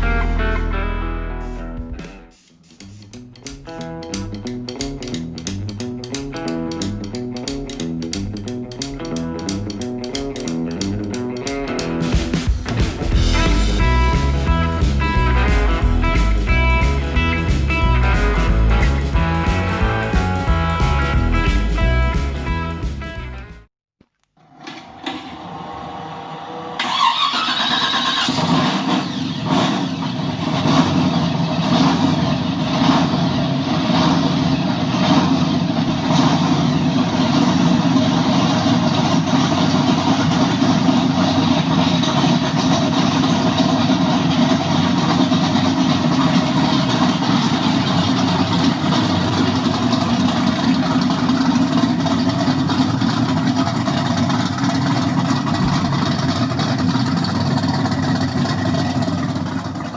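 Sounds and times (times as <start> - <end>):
engine starting and running: 0.0 - 23.6, 24.2 - 59.9.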